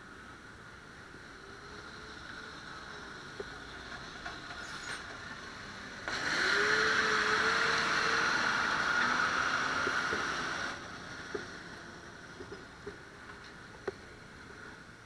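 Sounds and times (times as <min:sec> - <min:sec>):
traffic and tyre noise rushing: 0:00.0 - 0:15.0.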